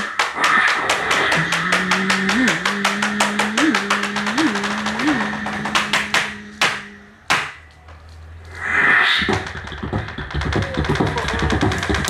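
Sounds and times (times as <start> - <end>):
sharp beatbox hits: 0.0 - 7.6, 9.2 - 12.0
low hum: 0.1 - 12.0.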